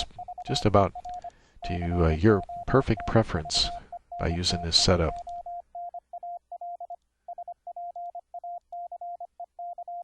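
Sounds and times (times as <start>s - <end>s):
morse code sine tone: 0.0s - 10.0s.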